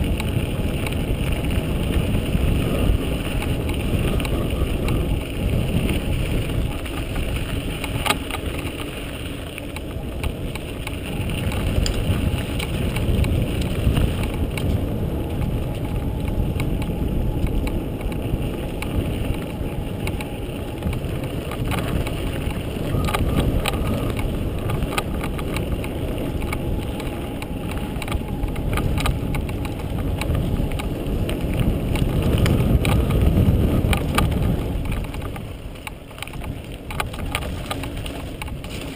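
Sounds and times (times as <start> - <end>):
bike clicks and rattles: 0.0 - 38.9
bike tyres rumbling on dirt: 0.0 - 38.9
wind buffeting microphone: 0.0 - 38.9.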